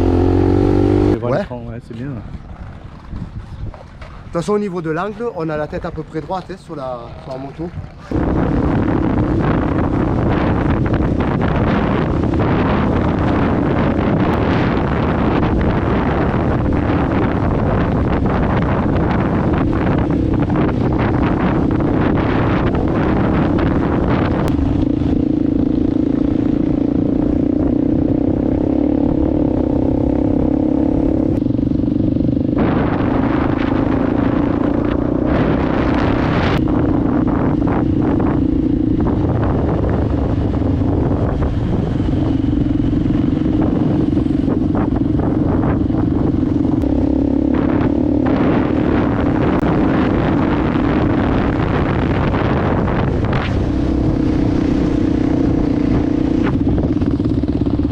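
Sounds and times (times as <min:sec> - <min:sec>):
wind buffeting microphone: 0:00.0 - 0:57.9
motorbike engine running: 0:07.3 - 0:57.9.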